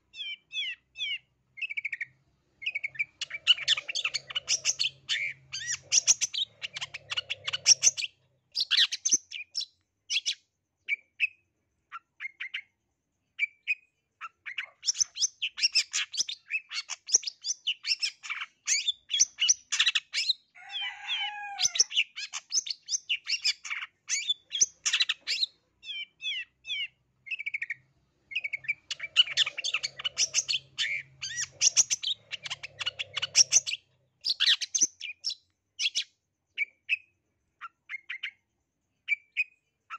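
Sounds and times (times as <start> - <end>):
bird chattering song: 0.0 - 12.8, 13.4 - 39.9.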